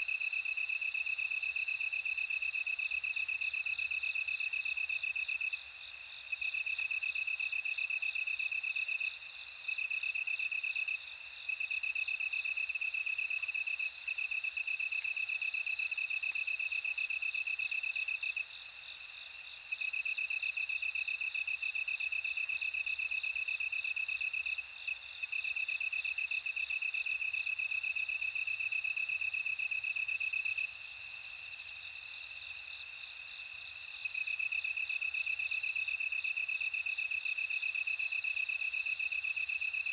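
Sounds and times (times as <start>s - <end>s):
high ringing cricket trill: 0.0s - 39.9s
low pulsed cricket trill: 0.0s - 39.9s.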